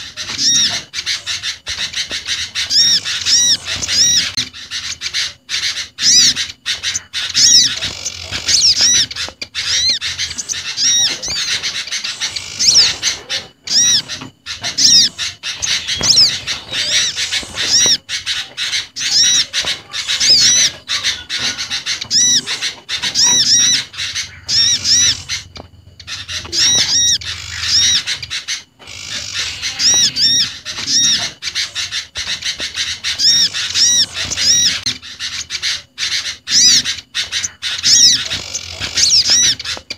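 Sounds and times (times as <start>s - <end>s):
small birds chirping rapidly: 0.0s - 39.9s.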